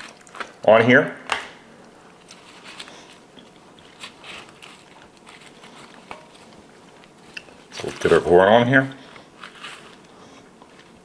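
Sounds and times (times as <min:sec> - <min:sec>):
corn husk rustling and crackling: 0:02.1 - 0:11.0.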